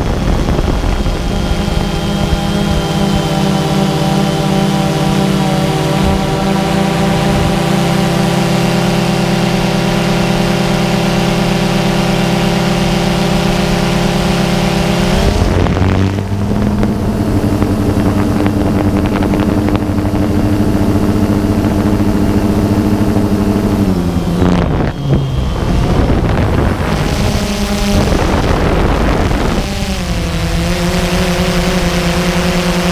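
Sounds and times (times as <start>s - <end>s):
drone propellers buzzing: 0.0s - 32.9s.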